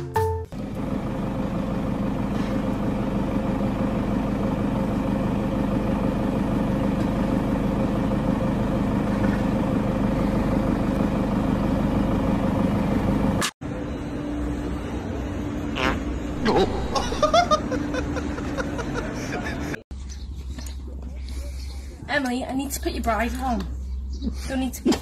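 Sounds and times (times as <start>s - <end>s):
vehicle engine idling: 0.5s - 24.7s.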